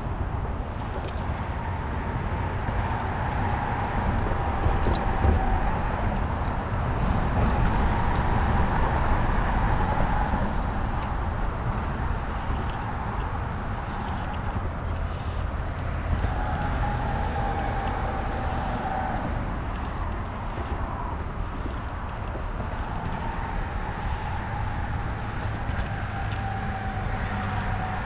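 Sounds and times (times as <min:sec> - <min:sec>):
road traffic drone: 0:00.0 - 0:28.0.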